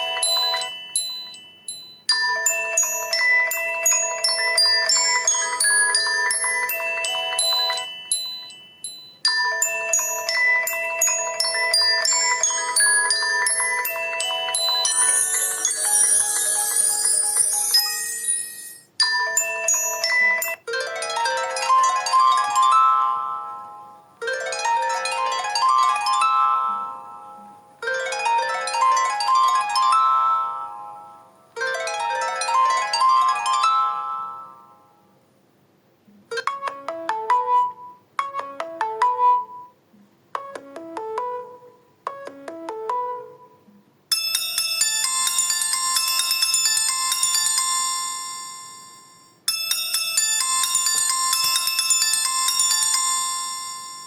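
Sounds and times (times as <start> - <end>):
bell-like mallet melody: 0.0 - 34.9, 44.1 - 54.0
busy high-pitched ringtone: 0.0 - 34.9, 36.3 - 39.8, 40.4 - 54.0.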